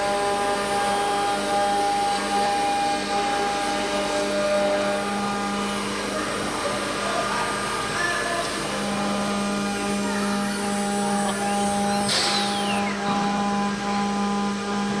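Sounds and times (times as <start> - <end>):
cnc router humming and whining: 0.0 - 15.0.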